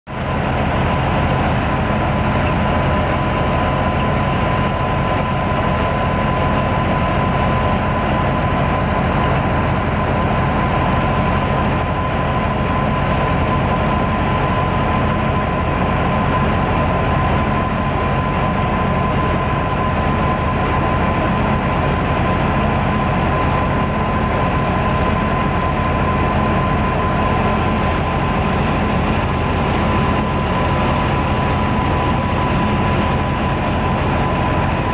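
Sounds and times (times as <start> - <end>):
thin steady whine: 0.1 - 34.9
tractor-driven thresher running: 0.1 - 34.9.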